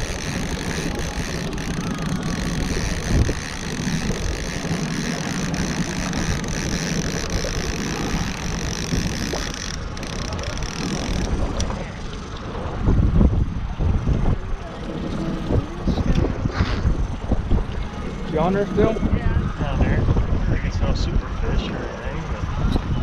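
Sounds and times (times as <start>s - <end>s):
outboard motor running: 0.0s - 23.0s
wind noise on microphone: 0.0s - 23.0s.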